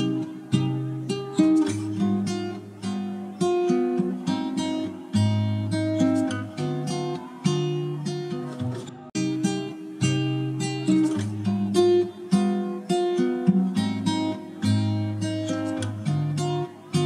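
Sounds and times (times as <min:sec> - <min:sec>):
acoustic guitar plucked chords: 0:00.0 - 0:17.0.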